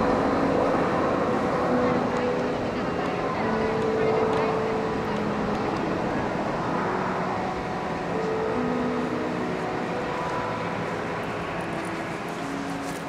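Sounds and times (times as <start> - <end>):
jet engine noise: 0.0 - 13.0.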